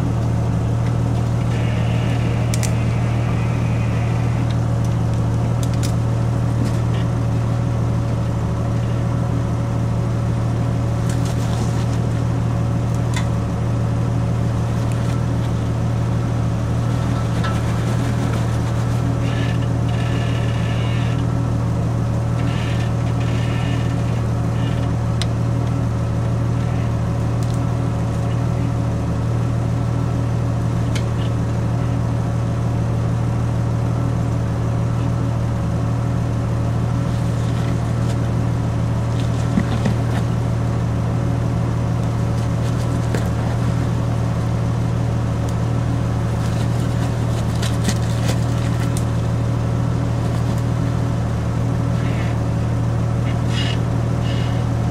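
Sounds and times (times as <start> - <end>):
car engine running at low revs: 0.0 - 54.9.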